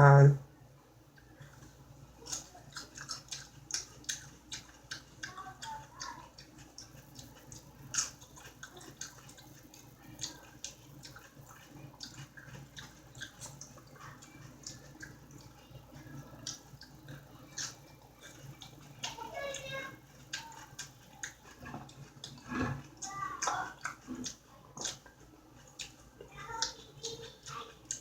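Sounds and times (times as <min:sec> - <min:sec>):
person chewing food: 0:01.1 - 0:28.0.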